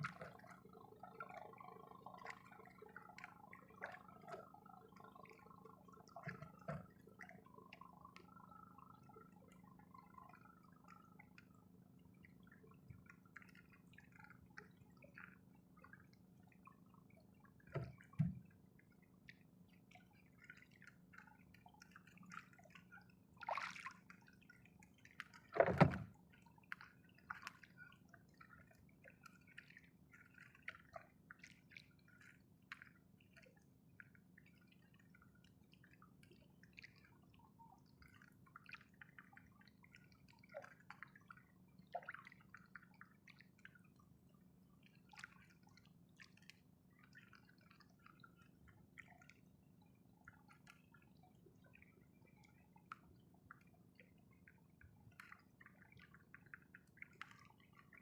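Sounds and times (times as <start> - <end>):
water dripping and trickling: 0.0 - 58.0.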